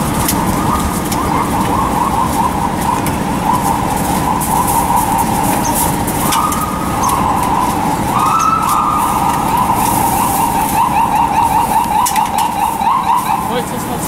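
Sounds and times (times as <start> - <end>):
emergency siren wailing and yelping: 0.0 - 14.0
street traffic: 0.0 - 14.0.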